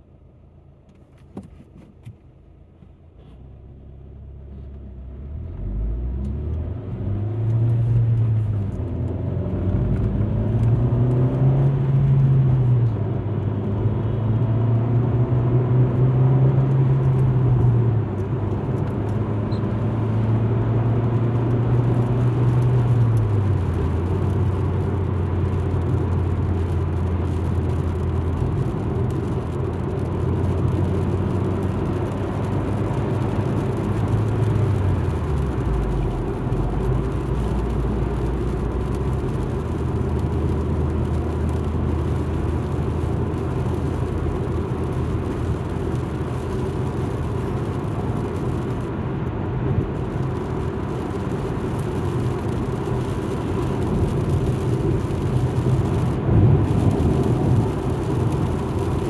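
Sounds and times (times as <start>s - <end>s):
road noise: 0.0s - 59.0s
car engine accelerating: 3.3s - 59.0s.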